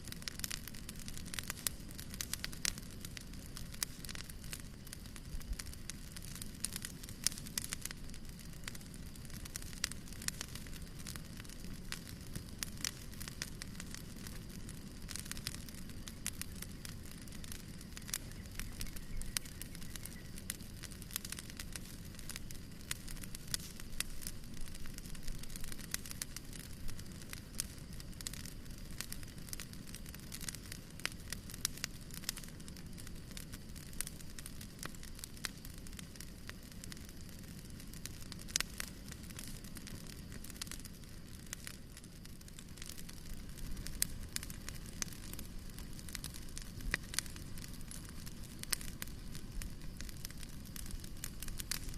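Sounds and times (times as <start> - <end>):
fire crackling in fireplace: 0.0 - 51.9.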